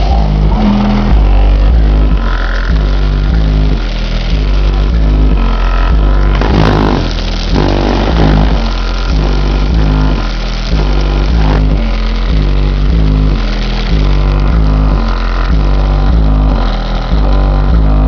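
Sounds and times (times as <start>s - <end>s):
hip-hop music through subwoofer: 0.0s - 18.0s.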